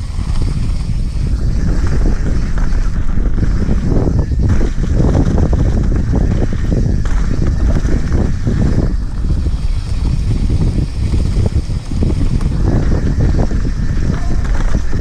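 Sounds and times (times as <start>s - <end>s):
mountain bike rumbling and rattling: 0.0s - 15.0s
wind buffeting microphone: 0.0s - 15.0s.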